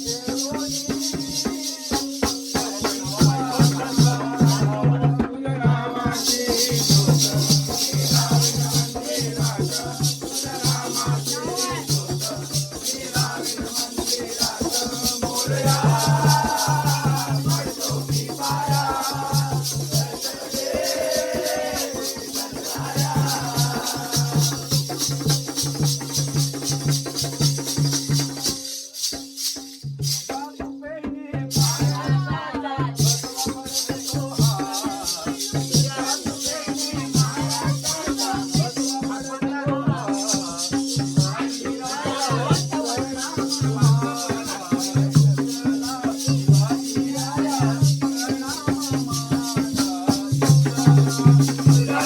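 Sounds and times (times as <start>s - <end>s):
person singing: 0.0s - 25.2s, 30.3s - 52.0s
hand drum beating: 0.0s - 52.0s.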